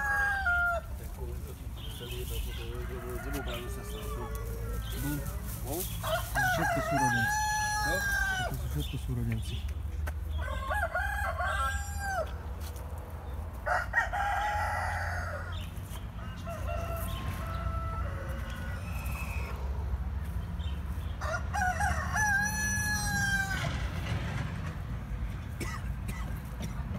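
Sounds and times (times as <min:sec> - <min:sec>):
roosters crowing: 0:00.0 - 0:09.0, 0:10.2 - 0:26.2.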